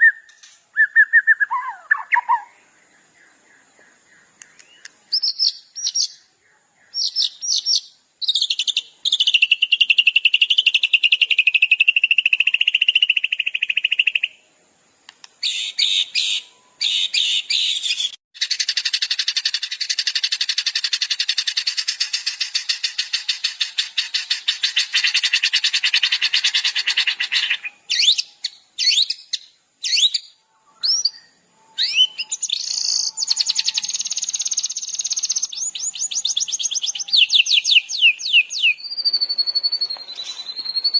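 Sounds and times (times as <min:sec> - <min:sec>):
songbird chirps and trills: 0:00.0 - 0:40.9.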